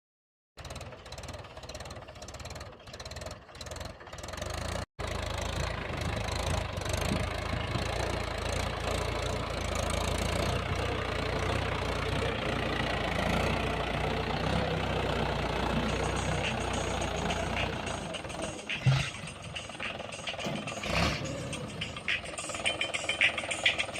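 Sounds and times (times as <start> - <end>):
tractor engine rumbling: 0.6 - 23.9.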